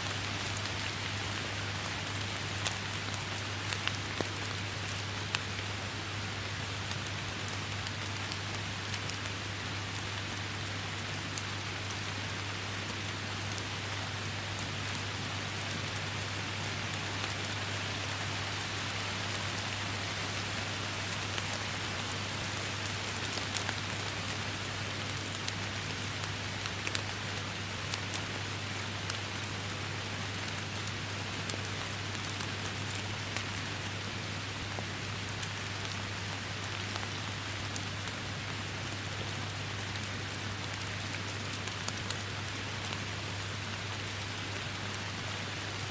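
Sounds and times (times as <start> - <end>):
rain hiss: 0.0 - 45.9
raindrops ticking on surfaces: 0.0 - 45.9.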